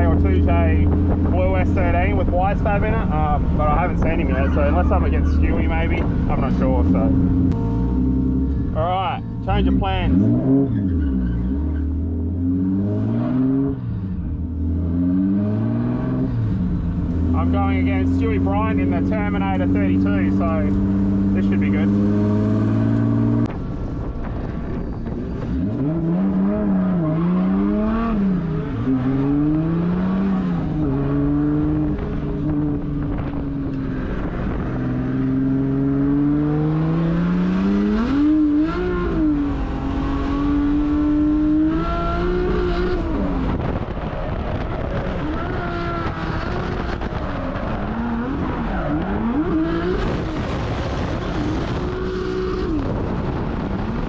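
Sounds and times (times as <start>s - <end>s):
car engine revving hard: 2.8s - 23.5s, 25.5s - 54.0s.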